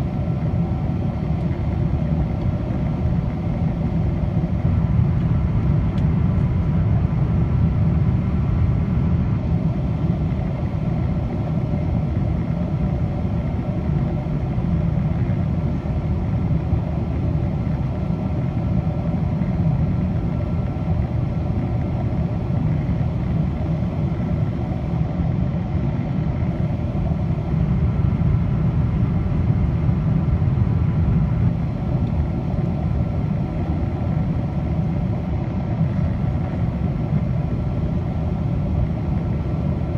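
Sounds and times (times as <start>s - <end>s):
faint steady whining tones: 0.0s - 39.9s
jet engines rumbling: 0.0s - 39.9s.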